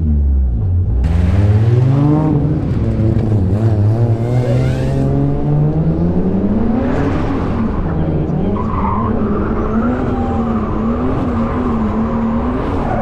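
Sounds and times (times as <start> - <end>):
turbocharged car engine revving: 1.0 - 13.0.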